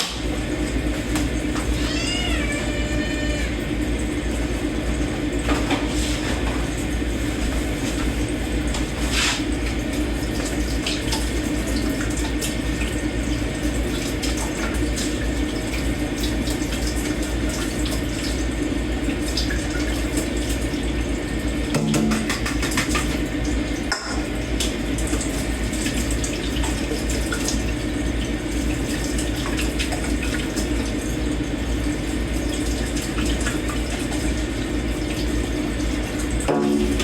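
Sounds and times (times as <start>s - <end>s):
tap water running into sink: 0.0s - 37.0s.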